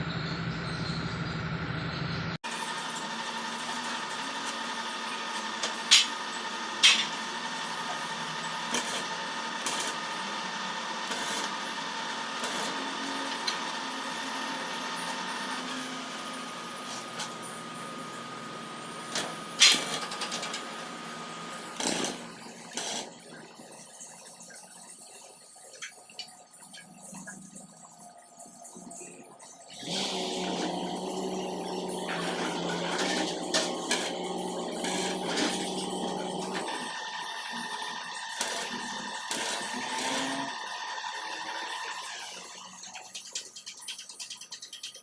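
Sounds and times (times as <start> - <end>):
workshop machinery humming: 0.0 - 43.4.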